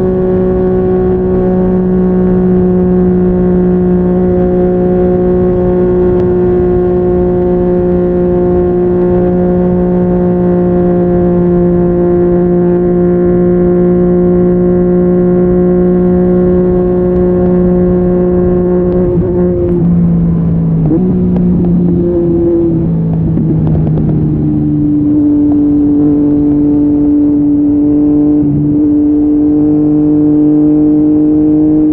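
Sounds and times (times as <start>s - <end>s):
motorcycle engine cruising: 0.0s - 31.9s.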